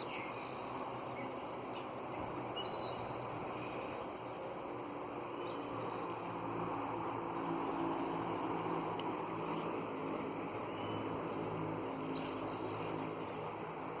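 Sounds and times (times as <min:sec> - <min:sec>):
crickets trilling: 0:00.0 - 0:14.0
outdoor background noise: 0:00.0 - 0:14.0.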